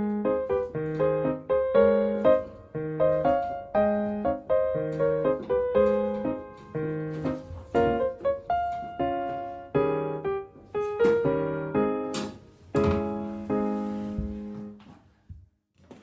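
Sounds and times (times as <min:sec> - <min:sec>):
slow piano chords: 0:00.0 - 0:14.8.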